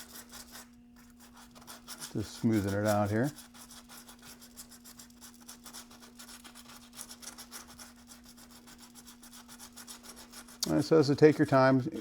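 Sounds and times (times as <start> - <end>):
sandpaper scratching on metal: 0.0 - 12.0.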